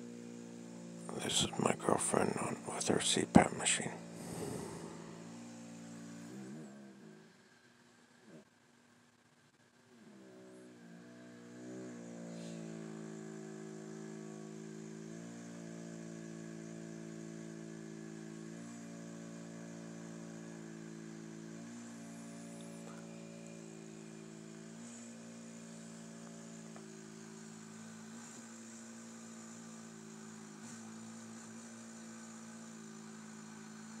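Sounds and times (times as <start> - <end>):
cpap mask droning hum: 0.0 - 8.4, 10.0 - 34.0.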